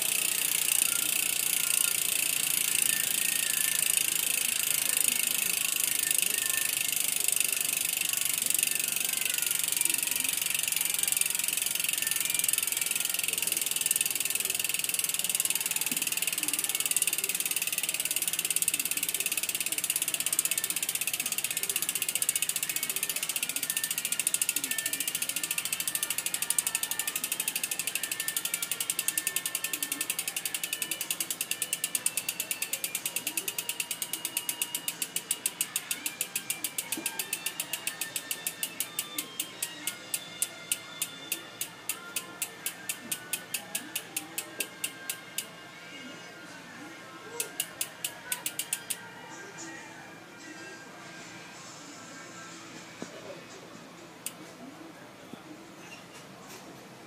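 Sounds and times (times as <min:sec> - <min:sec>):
bike hub freewheel clicking: 0:00.0 - 0:45.5, 0:47.4 - 0:49.0.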